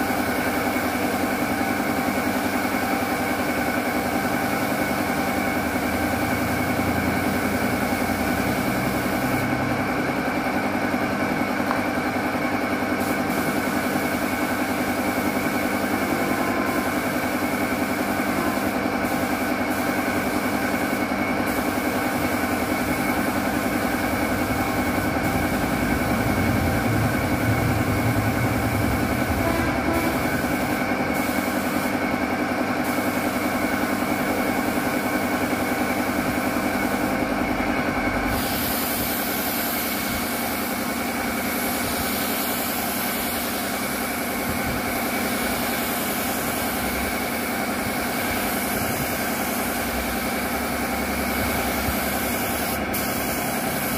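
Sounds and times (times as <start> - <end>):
air compressor running: 0.0 - 53.9
spray gun hissing: 0.0 - 53.9.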